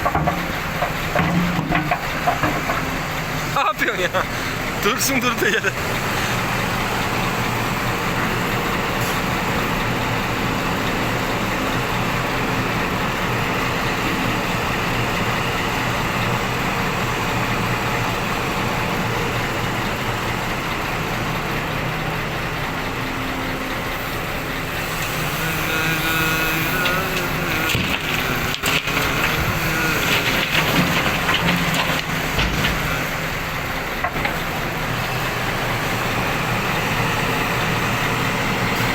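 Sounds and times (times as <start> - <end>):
dump truck diesel engine running: 0.0 - 38.9.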